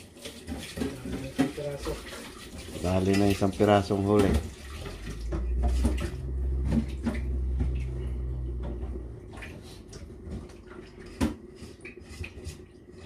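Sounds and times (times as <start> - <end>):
water running: 0.0 - 13.0.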